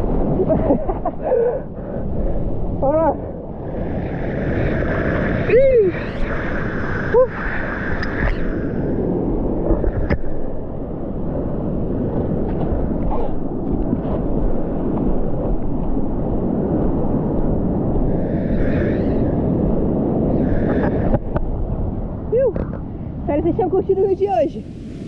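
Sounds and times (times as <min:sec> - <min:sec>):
surf breaking on sand beach: 0:00.0 - 0:23.6
wind buffeting microphone: 0:00.0 - 0:25.0.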